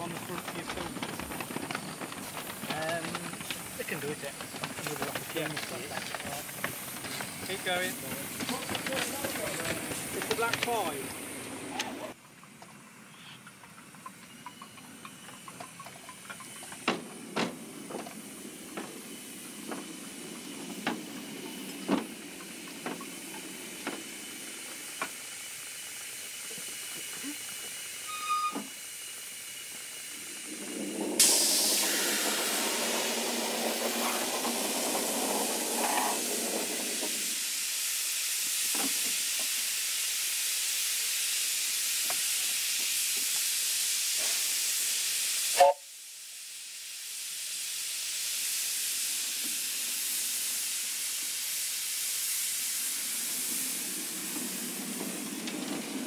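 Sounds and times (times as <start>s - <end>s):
steam hissing: 0.0s - 12.2s, 12.8s - 56.0s.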